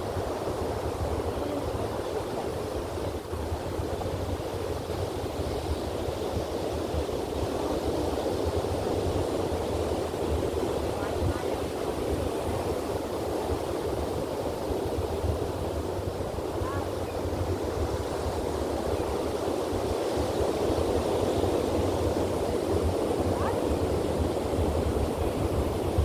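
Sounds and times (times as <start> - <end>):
ocean surf washing in: 0.0 - 26.0
wind buffeting microphone: 0.0 - 26.0.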